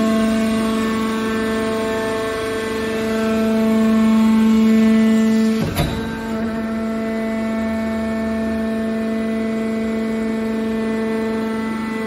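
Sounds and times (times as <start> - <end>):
hydraulic pump humming: 0.0 - 12.0.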